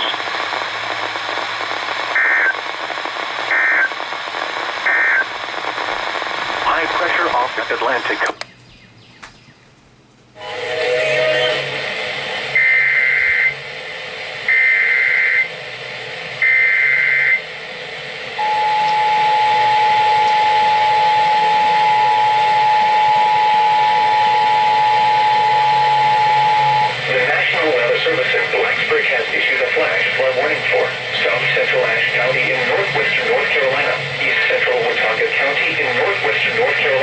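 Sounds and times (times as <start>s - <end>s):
radio background hiss: 0.0s - 8.5s, 10.4s - 37.0s.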